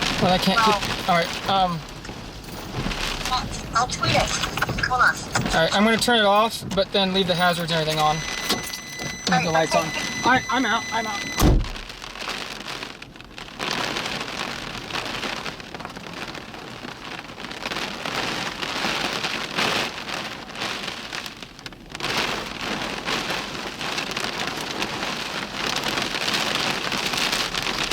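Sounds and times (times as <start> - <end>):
heavy rain: 0.0 - 27.9.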